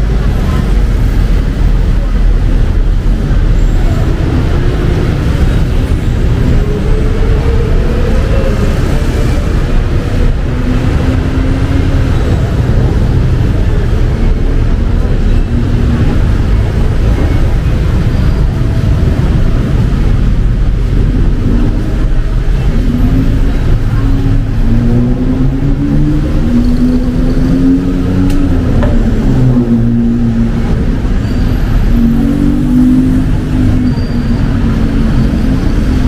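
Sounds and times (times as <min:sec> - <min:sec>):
road noise: 0:00.0 - 0:36.0
vehicle engine wavering: 0:00.0 - 0:36.0.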